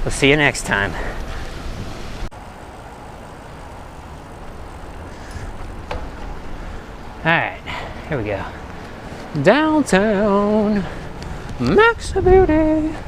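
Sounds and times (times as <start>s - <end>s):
road and traffic hiss: 0.0s - 13.0s.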